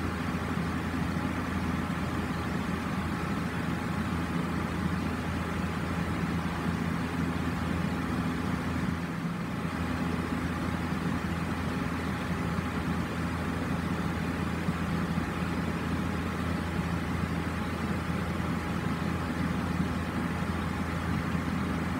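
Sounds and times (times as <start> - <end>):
exhaust fan running: 0.0 - 21.9.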